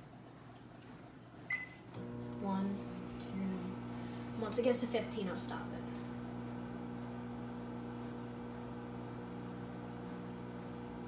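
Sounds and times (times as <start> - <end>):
microwave oven humming: 1.5 - 11.0.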